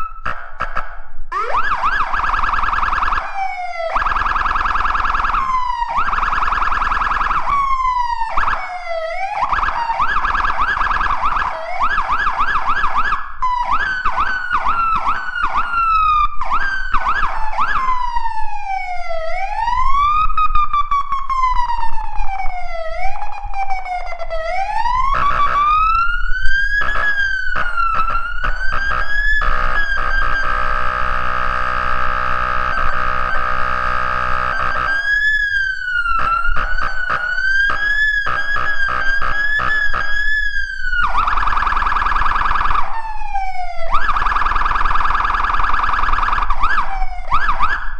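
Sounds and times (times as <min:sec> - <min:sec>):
fire engine siren: 0:00.0 - 0:47.9.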